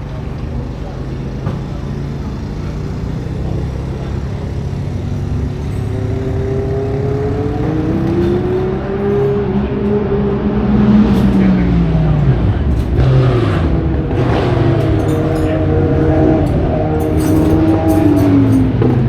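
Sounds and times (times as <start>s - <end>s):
racing car engine accelerating: 0.0s - 19.0s.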